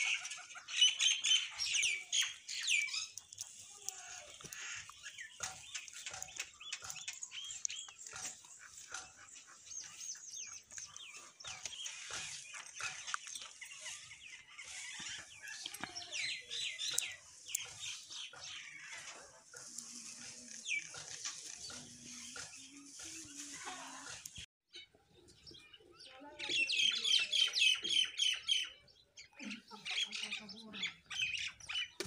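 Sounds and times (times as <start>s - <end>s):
mynas and sparrows chirping: 0.0s - 32.0s.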